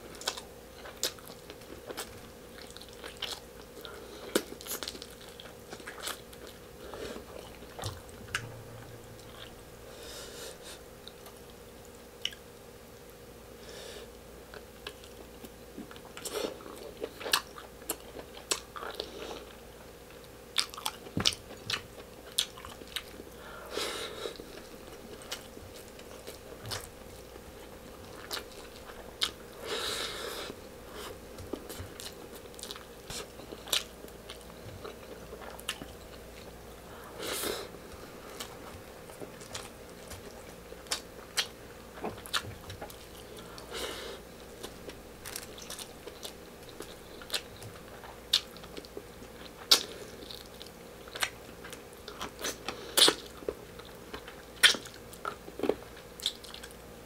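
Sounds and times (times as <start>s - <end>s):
faint steady hum: 0.0s - 57.0s
close chewing with mouth clicks: 0.1s - 8.1s, 14.5s - 23.4s, 24.3s - 29.5s, 30.4s - 36.6s, 37.8s - 56.9s.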